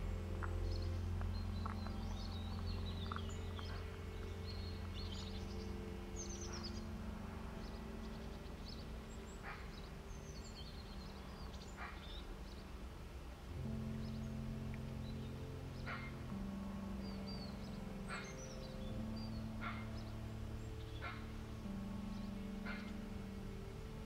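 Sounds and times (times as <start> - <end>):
soft low background music: 0.0 - 24.0
songbirds chirping and trilling: 0.0 - 24.0.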